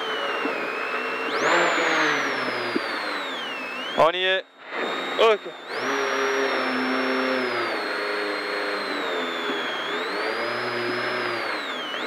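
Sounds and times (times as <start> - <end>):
car engine at low revs: 0.0 - 12.0
high thin whine: 0.0 - 12.0.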